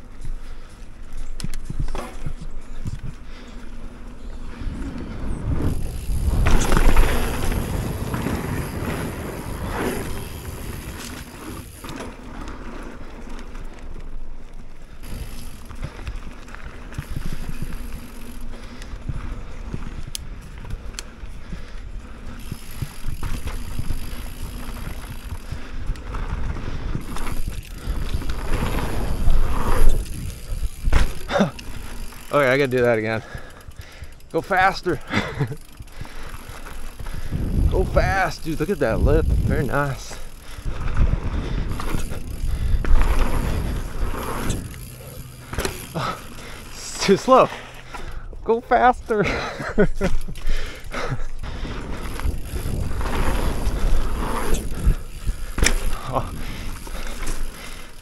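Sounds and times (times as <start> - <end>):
bike tyres rumbling on dirt: 0.0 - 58.0.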